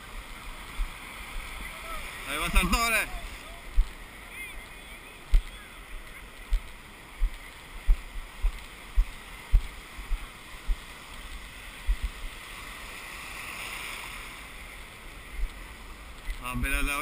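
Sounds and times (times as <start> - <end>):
surf breaking and hissing: 0.0 - 17.0.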